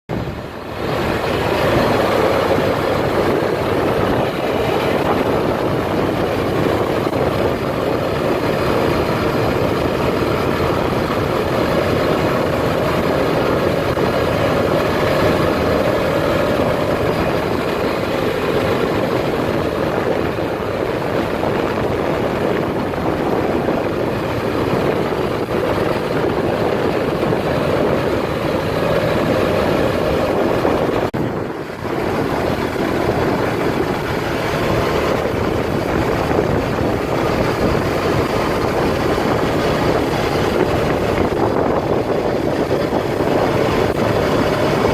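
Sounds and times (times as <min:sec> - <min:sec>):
driving rumble: 0:00.1 - 0:44.9
utility vehicle engine drone: 0:00.1 - 0:44.9.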